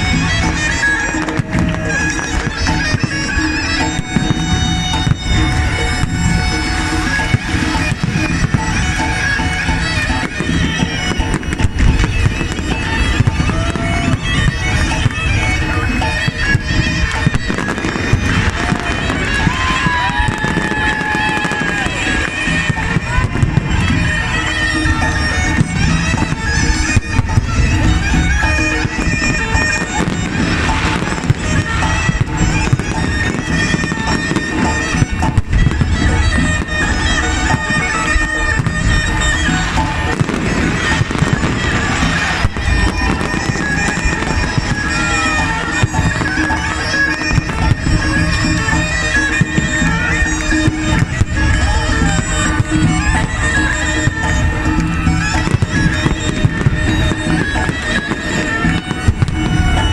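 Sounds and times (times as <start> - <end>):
fireworks bursting and crackling: 0.0 - 59.9
music with reedy wind melody: 0.0 - 59.9.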